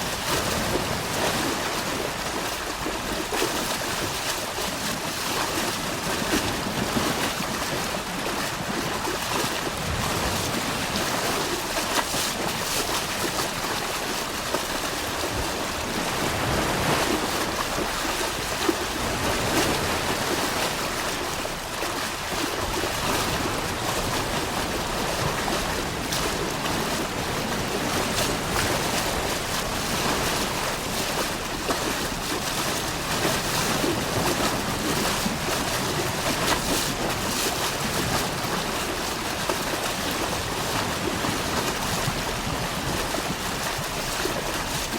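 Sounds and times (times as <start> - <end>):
wind: 0.0 - 44.9.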